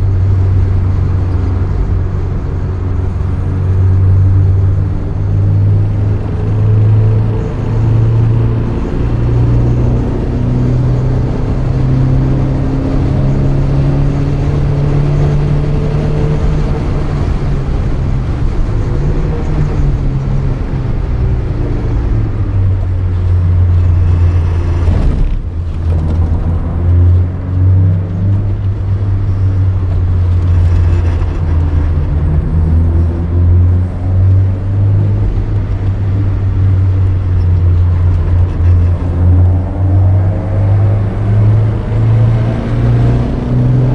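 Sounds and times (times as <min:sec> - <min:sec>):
car engine under load: 0:00.0 - 0:43.9.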